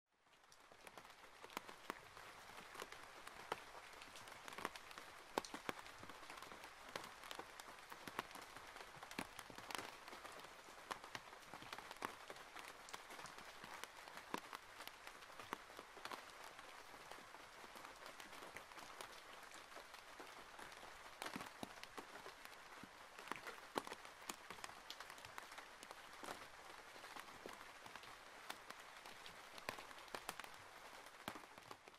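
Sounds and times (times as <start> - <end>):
rain on a window: 0.2 - 31.9.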